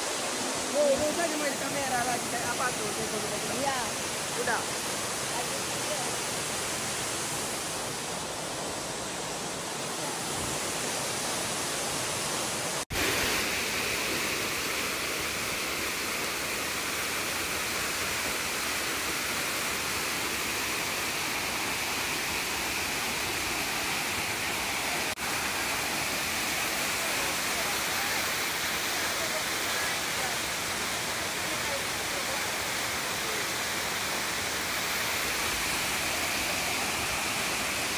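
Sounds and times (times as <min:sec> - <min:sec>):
waterfall rushing over rocks: 0:00.0 - 0:37.9.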